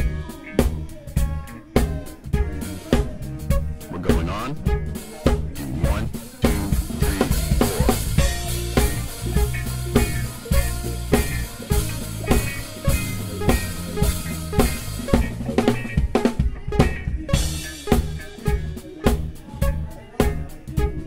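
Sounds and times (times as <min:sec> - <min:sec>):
band playing: 0:00.0 - 0:21.0.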